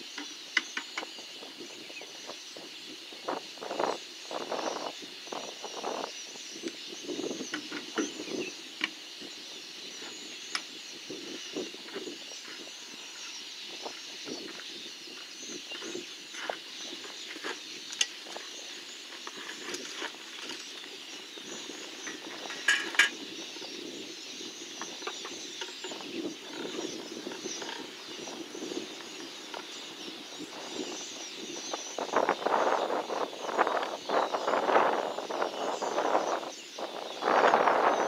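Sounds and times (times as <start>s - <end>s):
faint bird chirping: 0.0s - 38.0s.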